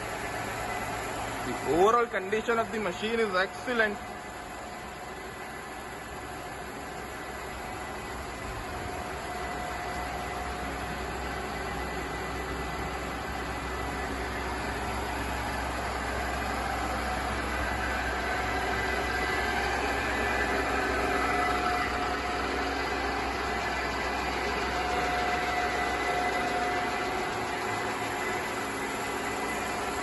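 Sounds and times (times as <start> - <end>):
milling machine humming: 0.0 - 30.0.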